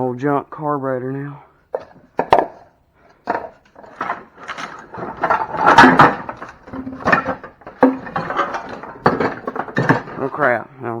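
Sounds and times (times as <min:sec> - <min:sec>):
clattering and rattling of parts: 0:01.7 - 0:10.6.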